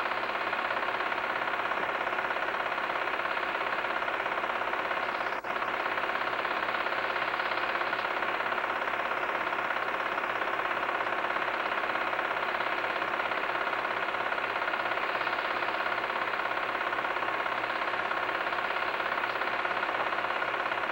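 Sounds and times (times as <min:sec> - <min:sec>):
film projector clatter: 0:00.0 - 0:20.9.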